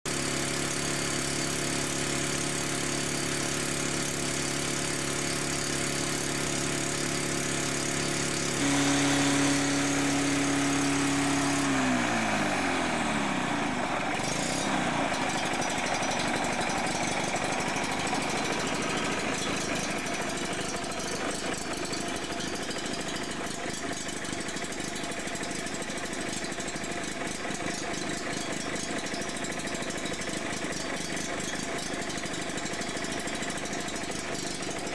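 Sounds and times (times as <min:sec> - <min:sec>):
lawnmower engine running: 0:00.1 - 0:34.9.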